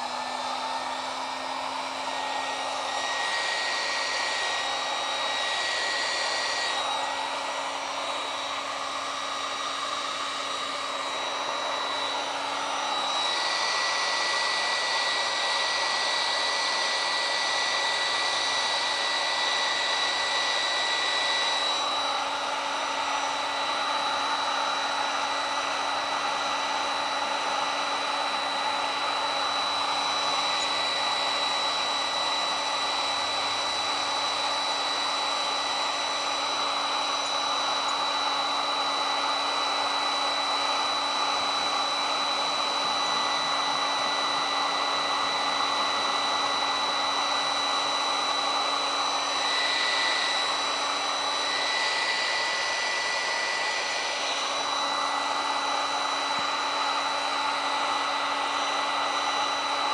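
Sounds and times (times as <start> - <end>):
heat gun blowing: 0.0 - 59.9.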